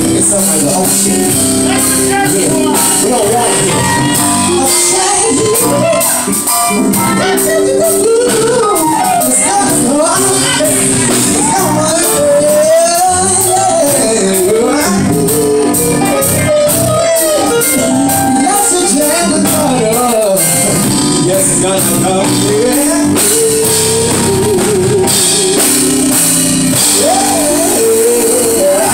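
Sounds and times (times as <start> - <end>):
live band playing: 0.0 - 28.9
person singing: 0.0 - 28.9.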